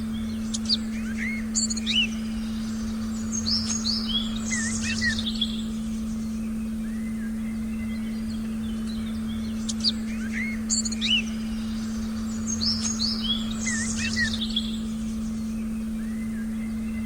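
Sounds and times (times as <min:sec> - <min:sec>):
birds chirping and whistling: 0:00.0 - 0:17.0
steady low tone: 0:00.0 - 0:17.0.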